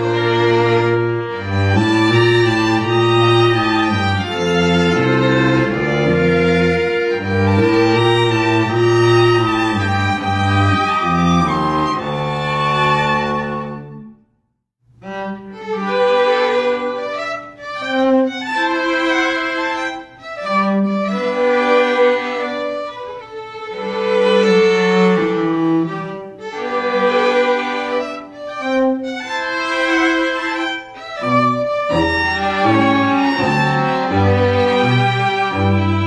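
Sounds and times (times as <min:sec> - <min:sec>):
violin and cello playing: 0:00.0 - 0:14.1, 0:15.0 - 0:36.0.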